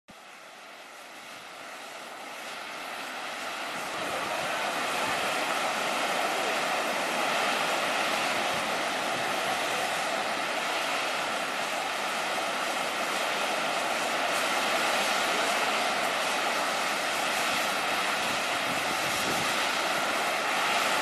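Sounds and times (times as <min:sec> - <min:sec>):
gas hissing from a vent: 0:00.2 - 0:21.0.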